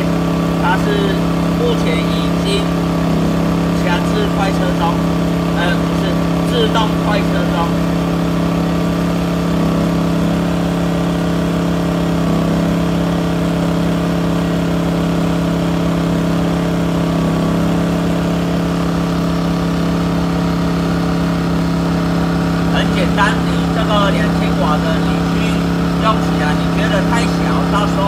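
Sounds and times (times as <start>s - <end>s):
generator engine running: 0.0s - 28.0s.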